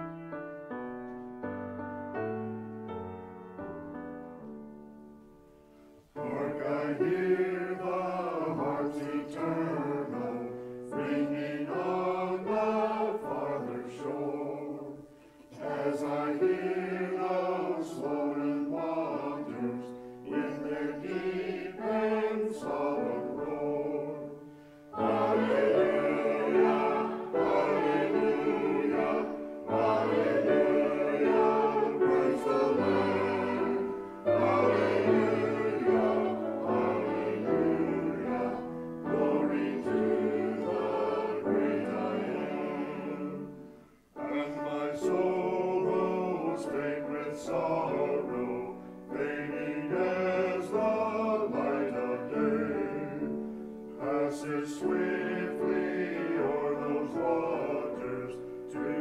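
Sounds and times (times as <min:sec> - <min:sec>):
mixed choir singing: 0:06.2 - 0:59.0.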